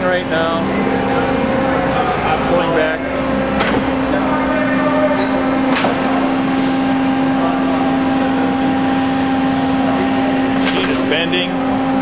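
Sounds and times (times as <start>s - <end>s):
hydraulic pump and motor hum: 0.0s - 12.0s.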